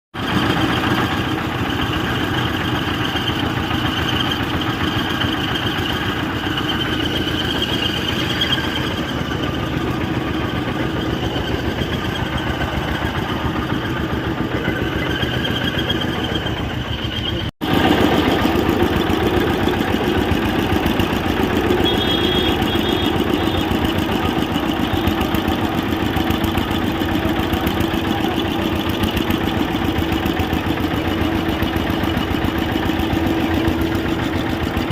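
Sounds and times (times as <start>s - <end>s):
pump engine running: 0.2s - 34.9s.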